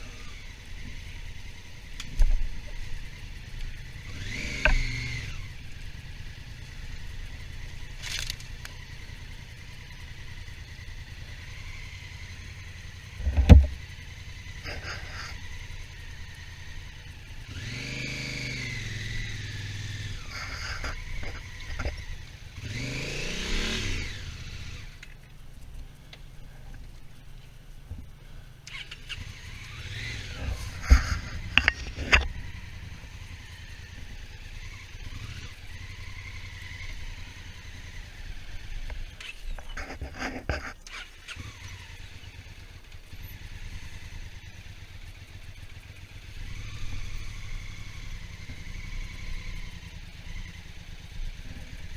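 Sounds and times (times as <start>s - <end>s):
motorcycle engine rumble: 0.0s - 51.9s.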